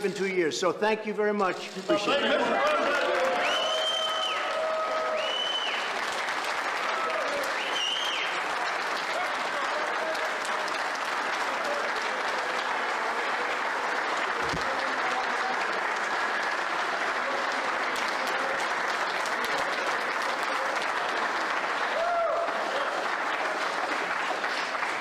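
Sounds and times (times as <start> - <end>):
crowd applauding: 1.9 - 25.0.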